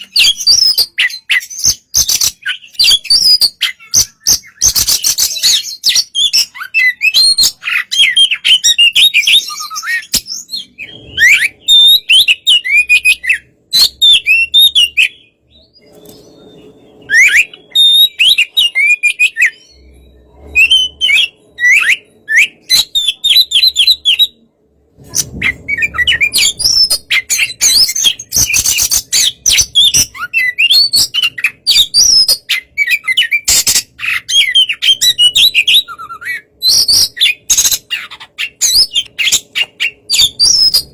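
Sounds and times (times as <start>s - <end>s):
bird singing: 0.0s - 24.6s, 25.2s - 40.9s.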